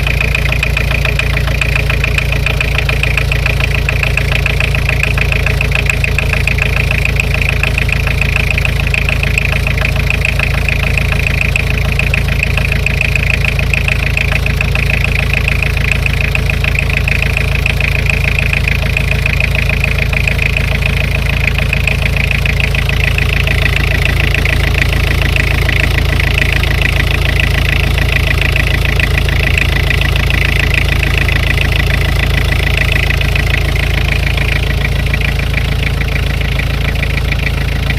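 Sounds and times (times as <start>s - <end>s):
diesel engine idling with knock: 0.0s - 37.9s.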